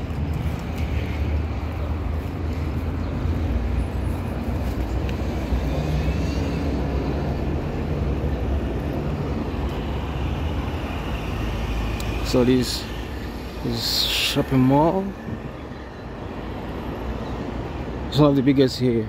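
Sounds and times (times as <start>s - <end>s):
city ambience rumble: 0.0s - 19.0s.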